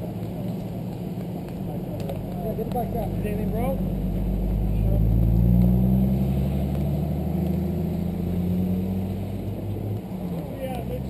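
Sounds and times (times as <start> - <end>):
car passing slowly: 0.0 - 11.0.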